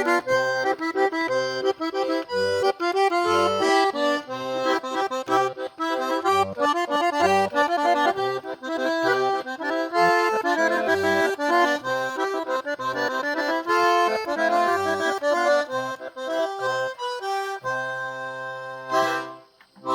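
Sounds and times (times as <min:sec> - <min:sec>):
button accordion melody: 0:00.0 - 0:19.9.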